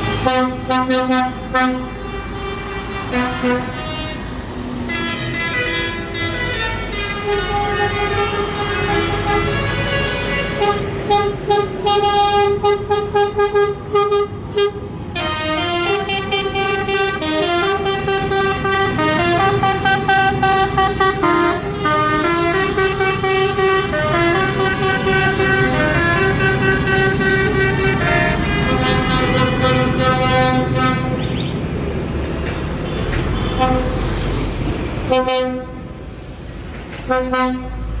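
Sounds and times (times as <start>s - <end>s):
musical horns playing a tune: 0.0s - 31.3s, 33.3s - 34.4s, 35.1s - 35.9s, 37.1s - 37.9s.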